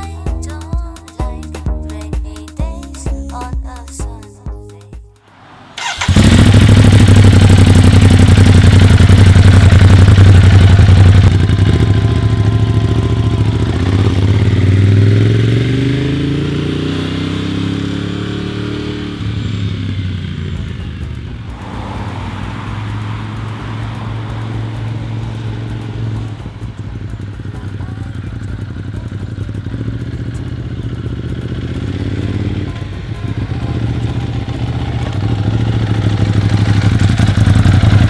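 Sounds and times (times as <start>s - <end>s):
motorcycle engine starting and running: 0.0s - 4.4s, 5.8s - 38.0s.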